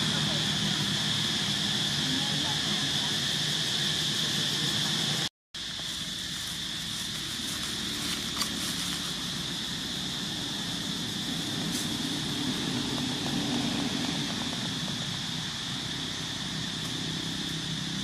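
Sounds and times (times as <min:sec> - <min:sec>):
low engine rumble: 0:00.0 - 0:18.0
steady high hiss: 0:00.0 - 0:18.0.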